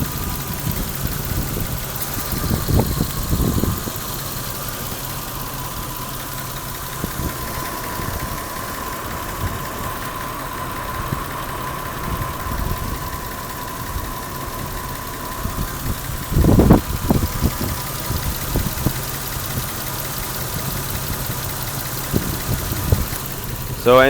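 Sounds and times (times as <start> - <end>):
steady high whine: 0.0 - 21.1
car engine idling roughly: 0.0 - 24.0.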